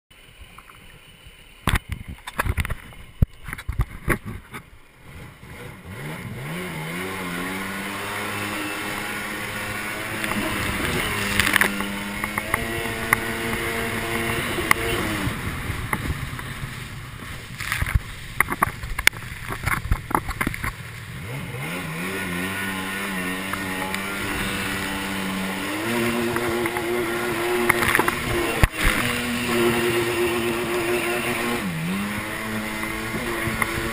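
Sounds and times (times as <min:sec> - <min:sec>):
jet ski engine accelerating: 0:01.1 - 0:33.9.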